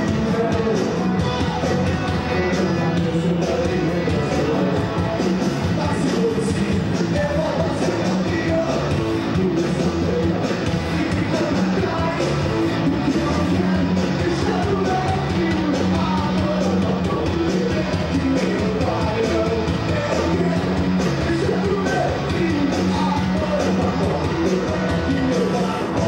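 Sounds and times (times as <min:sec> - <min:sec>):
man singing lead vocal: 0:00.0 - 0:26.0
rock band playing live: 0:00.0 - 0:26.0.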